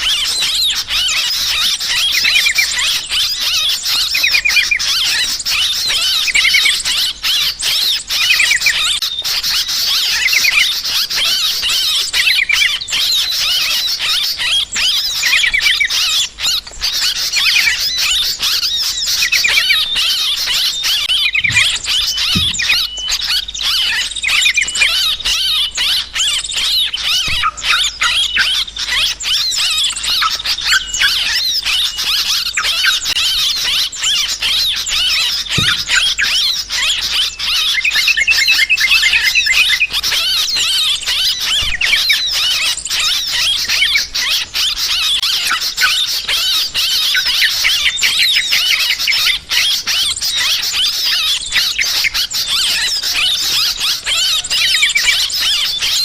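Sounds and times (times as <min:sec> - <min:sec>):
flock of birds chattering: 0:00.0 - 0:56.0.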